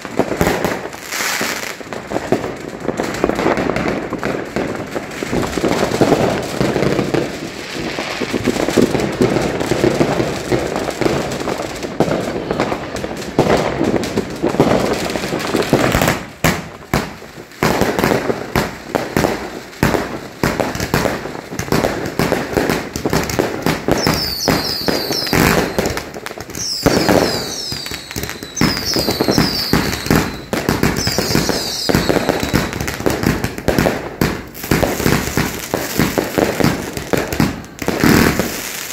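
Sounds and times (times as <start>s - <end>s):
fireworks bangs and crackles: 0.0s - 38.9s
whistling fireworks: 0.0s - 38.9s.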